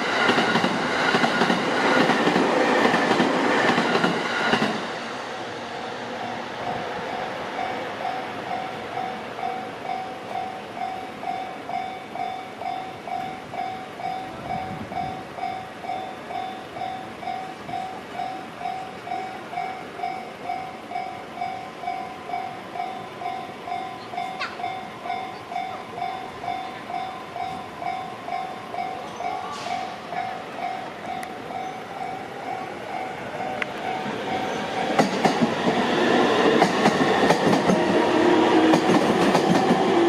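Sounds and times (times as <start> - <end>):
train on rails: 0.0 - 40.0.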